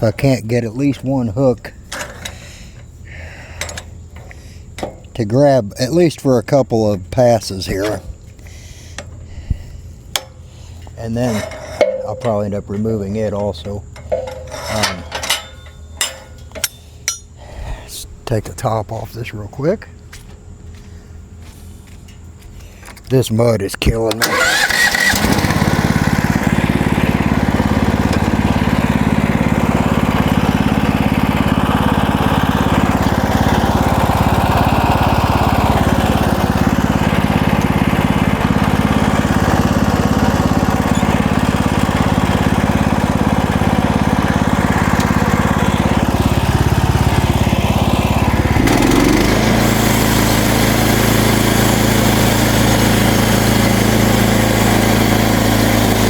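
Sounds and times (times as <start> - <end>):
sawmill gasoline engine running: 0.0 - 17.1, 24.0 - 56.0.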